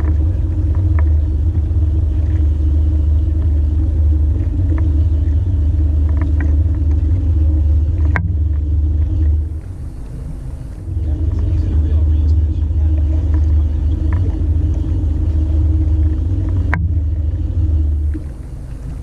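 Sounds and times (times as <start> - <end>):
boat motor rumbling: 0.0 - 19.0.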